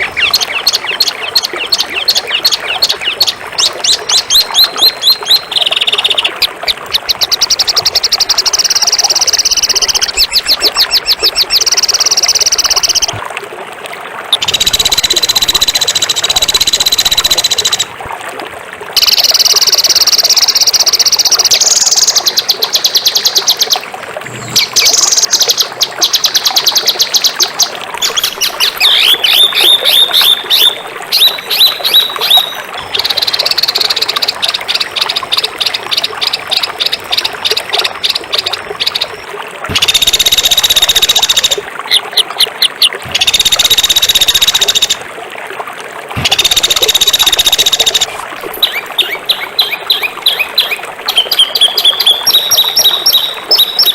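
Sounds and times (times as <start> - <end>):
songbird singing buzzy trills: 0.0 - 13.2, 14.4 - 17.9, 19.0 - 45.0, 46.2 - 53.9.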